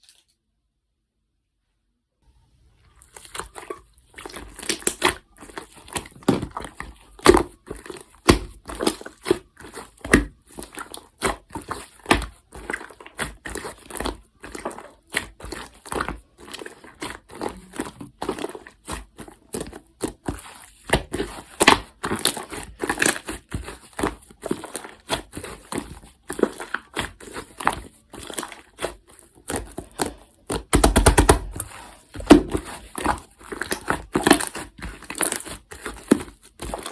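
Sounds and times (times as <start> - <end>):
slime crackling and popping: 3.0 - 36.9.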